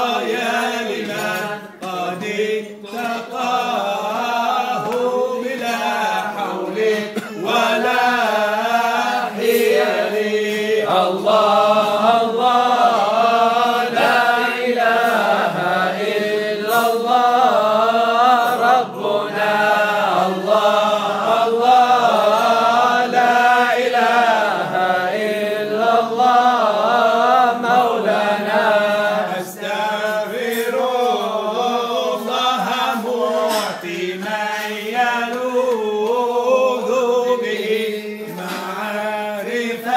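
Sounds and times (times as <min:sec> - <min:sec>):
man chanting devotional song: 0:00.0 - 0:39.9.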